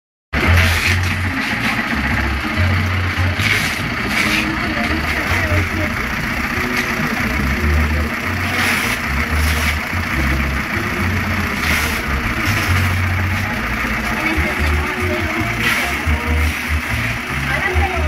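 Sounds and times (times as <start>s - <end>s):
industrial sewing machine running: 0.4s - 18.0s.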